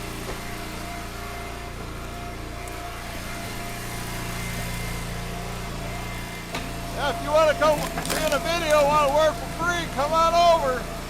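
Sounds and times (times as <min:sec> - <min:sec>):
small gas engine running: 0:00.0 - 0:11.0.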